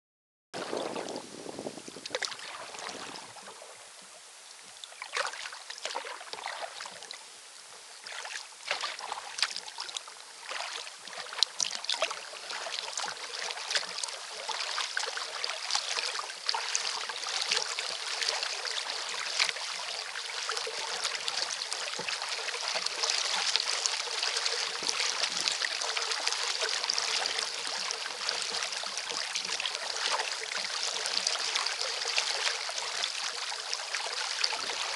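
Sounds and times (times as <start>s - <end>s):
water splashing against kayak hull: 0.6s - 7.2s, 8.0s - 34.9s
paddle splashes and drips: 0.6s - 34.9s.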